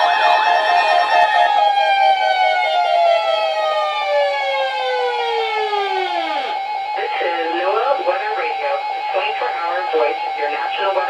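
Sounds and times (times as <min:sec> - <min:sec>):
siren alarm sliding down: 0:00.0 - 0:11.0.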